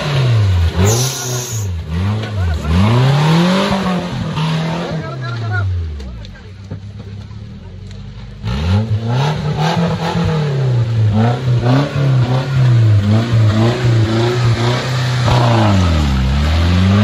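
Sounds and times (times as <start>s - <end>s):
engine revving: 0.0s - 6.2s, 7.8s - 17.0s.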